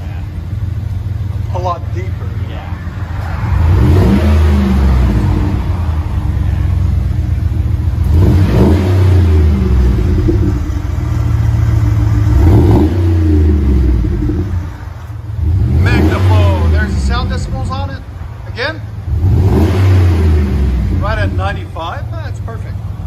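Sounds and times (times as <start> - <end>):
engine revving: 0.0 - 23.0.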